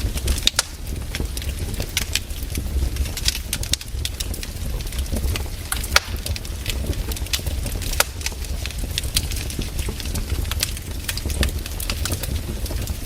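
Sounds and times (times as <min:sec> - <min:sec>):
firewood crackling: 0:00.0 - 0:13.0.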